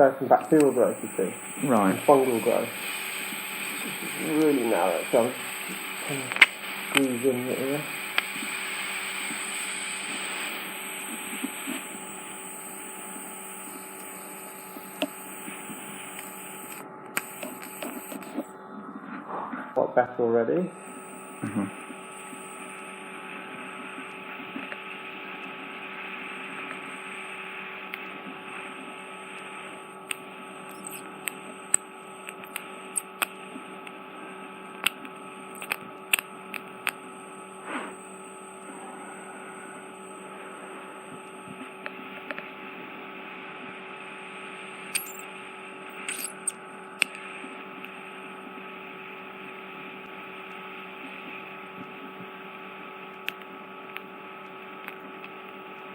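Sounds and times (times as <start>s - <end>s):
suction unit hum and hiss: 0.0s - 55.9s.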